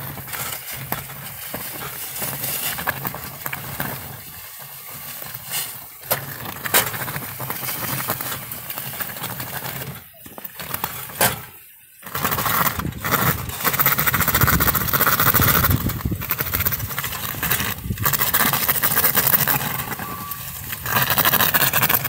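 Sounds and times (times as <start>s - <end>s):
blade scraping over snowy pavement: 0.0s - 22.0s.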